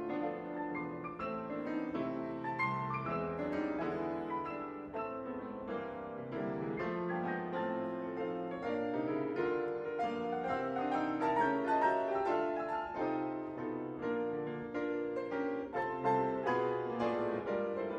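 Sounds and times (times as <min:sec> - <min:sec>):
ragtime piano playing: 0:00.0 - 0:17.9.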